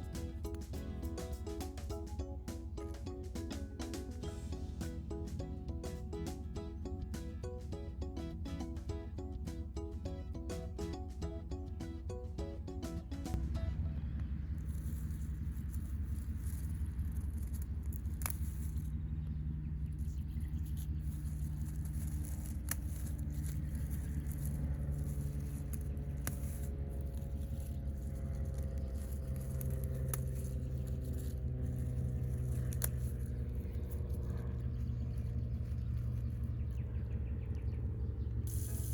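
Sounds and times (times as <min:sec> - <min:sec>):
faint drifting tones: 0:00.0 - 0:38.9
steady low hum: 0:00.0 - 0:38.9.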